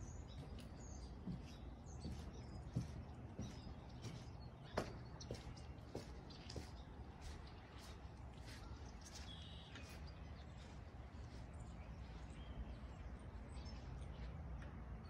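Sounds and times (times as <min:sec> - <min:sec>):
bird chirps: 0:00.0 - 0:14.8.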